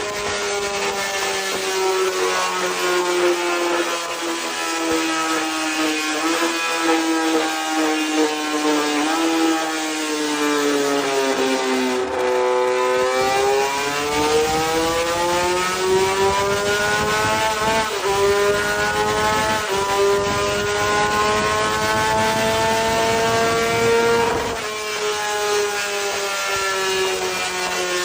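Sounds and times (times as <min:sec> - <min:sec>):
motorcycle engine revving on a dyno: 0:00.0 - 0:28.0.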